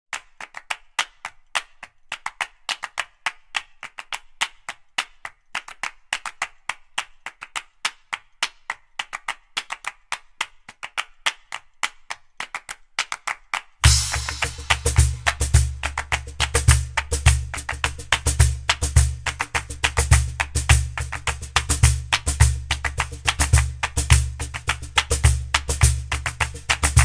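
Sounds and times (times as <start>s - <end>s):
percussive music of dry clicks and claps: 0.1s - 27.0s.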